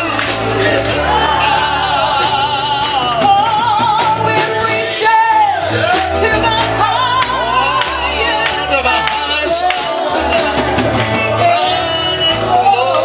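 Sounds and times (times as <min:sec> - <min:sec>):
duet singing a hymn: 0:00.0 - 0:13.0
musical accompaniment with beat: 0:00.0 - 0:13.0.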